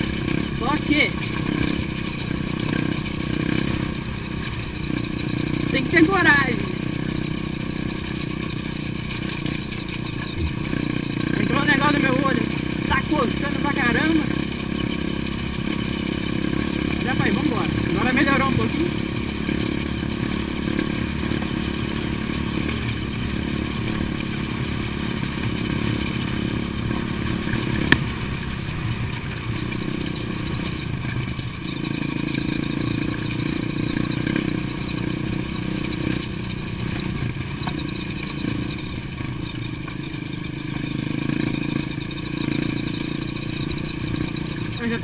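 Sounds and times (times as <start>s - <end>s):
dirt bike engine running: 0.0s - 45.0s
tyres on gravel: 0.0s - 45.0s.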